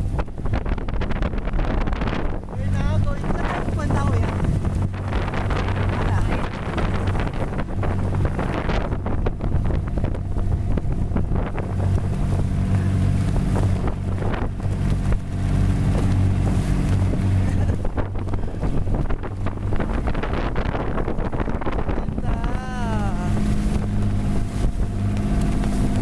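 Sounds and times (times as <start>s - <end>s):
boat engine running: 0.0s - 26.0s
water splashing: 0.0s - 26.0s
wind buffeting microphone: 0.0s - 26.0s.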